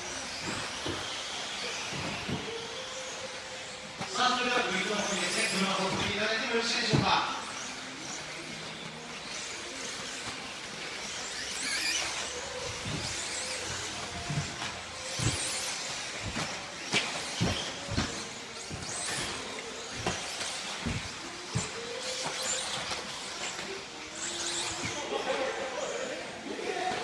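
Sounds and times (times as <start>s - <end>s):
rc car electric motors whining: 0.0s - 27.0s.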